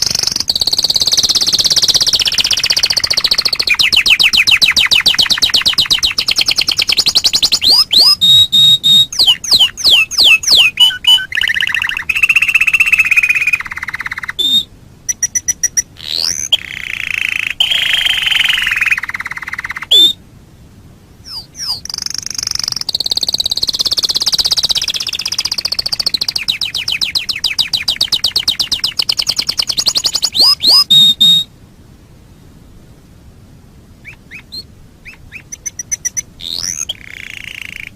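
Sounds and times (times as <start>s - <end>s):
canary singing trills: 0.0s - 20.2s, 21.2s - 31.5s, 34.0s - 37.9s.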